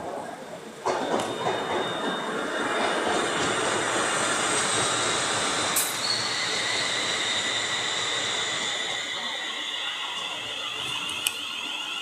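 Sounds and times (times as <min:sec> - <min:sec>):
train rumbling hiss: 0:00.1 - 0:12.0
wheels squealing: 0:01.0 - 0:12.0.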